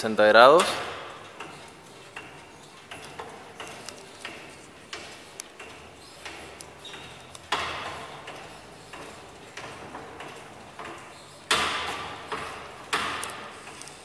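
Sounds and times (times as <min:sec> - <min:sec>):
drum stacker pump clanking: 0:00.0 - 0:14.0.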